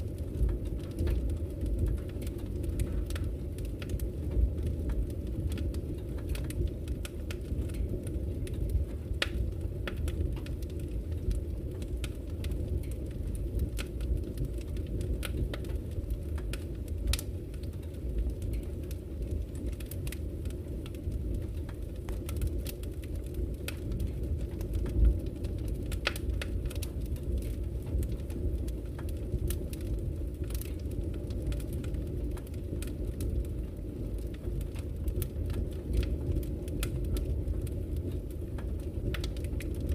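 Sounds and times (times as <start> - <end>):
burning logs crackling and popping: 0.0 - 39.9
fire flames rumbling: 0.0 - 39.9.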